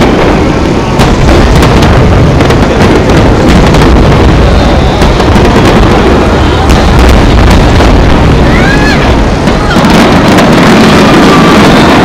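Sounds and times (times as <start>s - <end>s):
fireworks sharp cracks: 0.0s - 12.0s
fireworks shell bursts rumbling: 0.0s - 12.0s.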